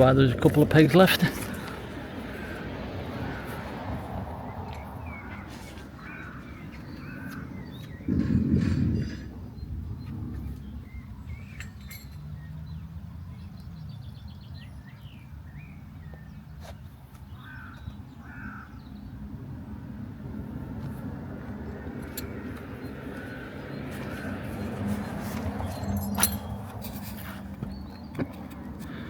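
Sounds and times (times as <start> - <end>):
birds calling: 0.0 - 19.8, 21.4 - 29.0.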